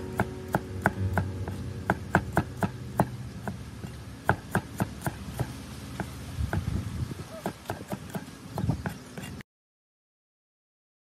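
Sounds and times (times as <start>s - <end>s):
cleaver chopping on wooden block: 0.1s - 9.4s.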